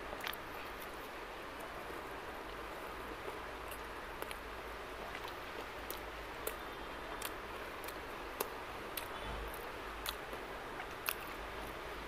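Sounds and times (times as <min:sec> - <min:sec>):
people chewing food: 0:00.0 - 0:12.0
steady room hiss: 0:00.0 - 0:12.0.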